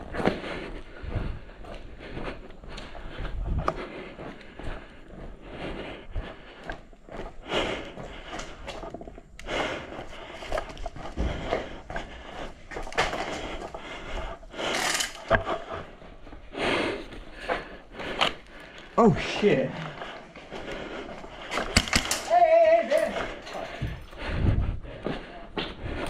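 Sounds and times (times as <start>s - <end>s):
gear and clothing rustling: 0.0s - 25.0s.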